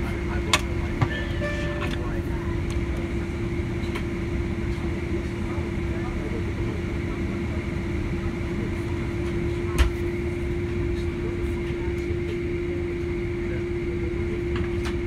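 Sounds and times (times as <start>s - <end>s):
jet engines idling rumble: 0.0s - 15.0s.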